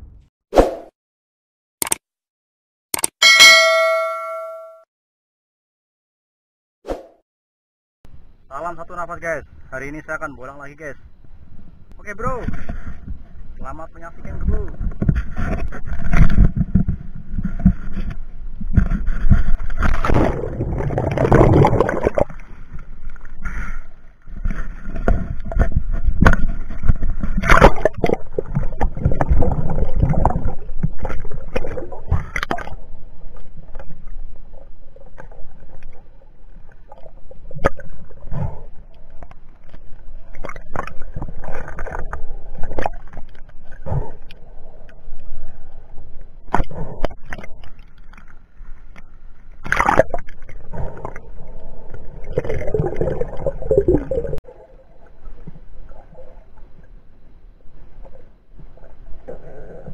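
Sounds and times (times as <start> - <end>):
water swirling and gurgling underwater: 11.1 - 59.9.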